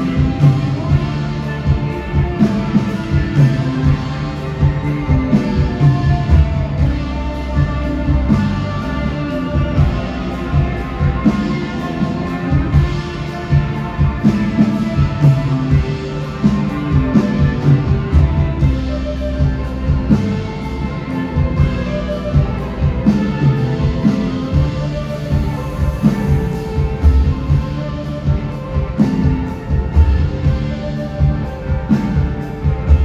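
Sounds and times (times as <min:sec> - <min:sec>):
live band music: 0:00.0 - 0:33.0.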